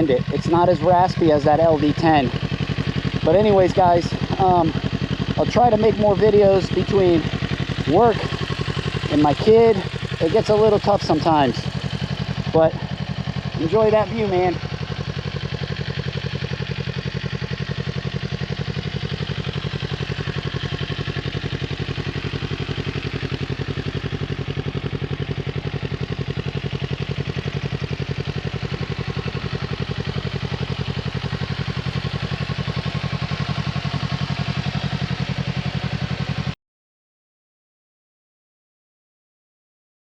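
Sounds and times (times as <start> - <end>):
motorcycle engine running steadily: 0.0 - 36.6.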